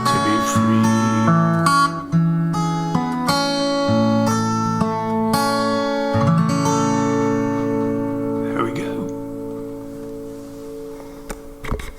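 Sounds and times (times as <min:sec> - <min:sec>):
acoustic guitar chords: 0:00.0 - 0:11.9.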